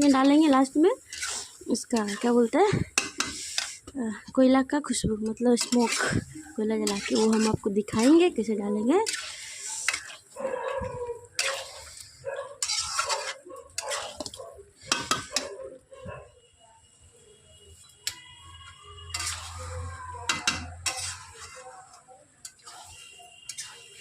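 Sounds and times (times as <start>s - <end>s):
metal spoon scraping a pot: 0.0s - 4.3s, 5.2s - 15.6s, 18.0s - 24.0s.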